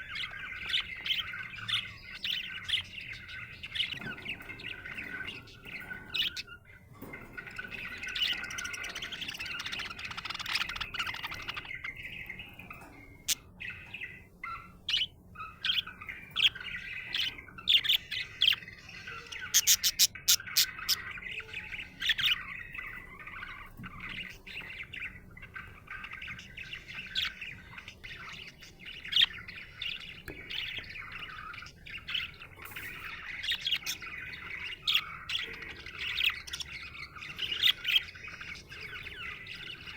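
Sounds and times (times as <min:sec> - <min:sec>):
budgerigar chirping and warbling: 0:00.0 - 0:39.9.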